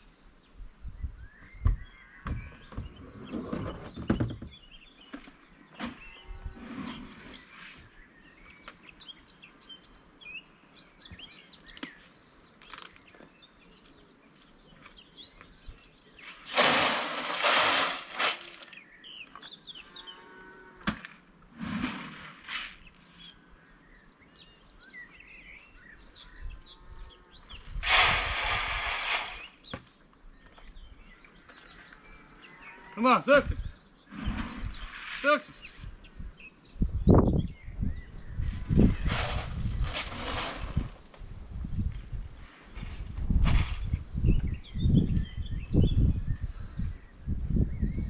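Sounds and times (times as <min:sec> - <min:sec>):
small birds chirping: 0:00.0 - 0:16.6, 0:18.1 - 0:20.8, 0:22.4 - 0:48.0.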